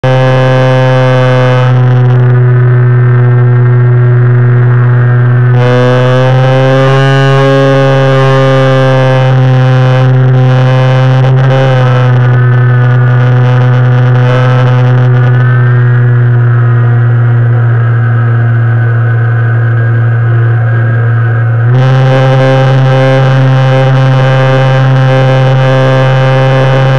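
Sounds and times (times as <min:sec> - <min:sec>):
model plane propeller drone: 0:00.0 - 0:26.9.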